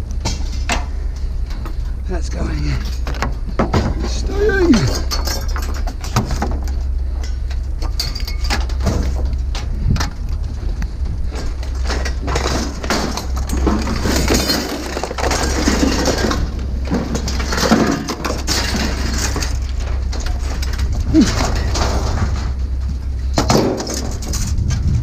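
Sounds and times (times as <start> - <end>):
junk clattering and crunching: 0.0 - 25.0
steady low rumble: 0.0 - 25.0.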